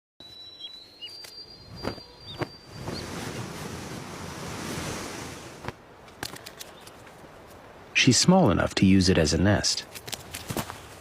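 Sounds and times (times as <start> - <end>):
wind-like noise: 1.5 - 11.0.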